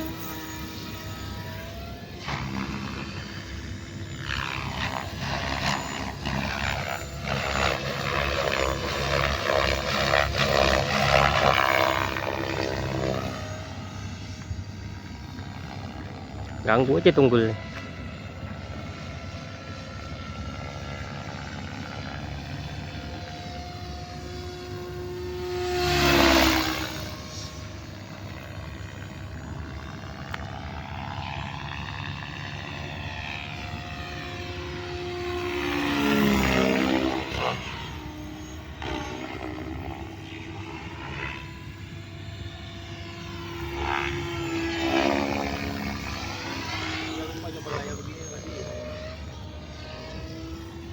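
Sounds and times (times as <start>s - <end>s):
rc helicopter motor and rotor whine: 0.0s - 50.9s.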